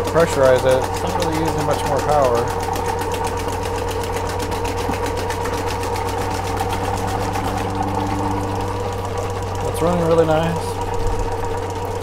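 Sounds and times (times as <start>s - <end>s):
motor humming with fast ticking: 0.0s - 12.0s.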